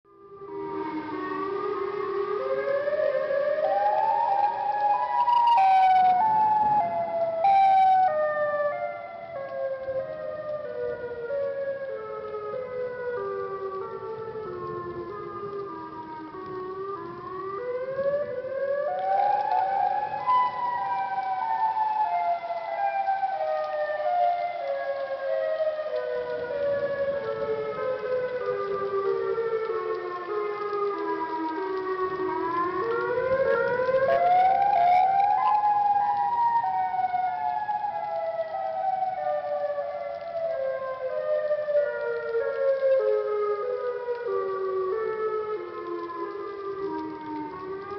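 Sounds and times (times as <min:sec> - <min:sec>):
siren wailing: 0:00.1 - 0:47.9.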